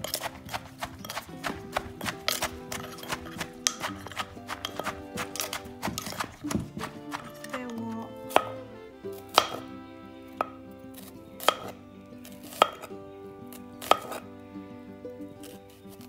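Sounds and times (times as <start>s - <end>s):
knife slicing onion: 0.0s - 9.7s, 10.4s - 12.9s, 13.5s - 14.2s.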